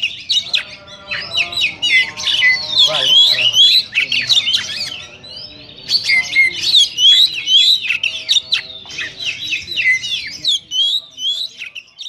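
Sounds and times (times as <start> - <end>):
bird singing whistles and chatter: 0.0 - 12.0.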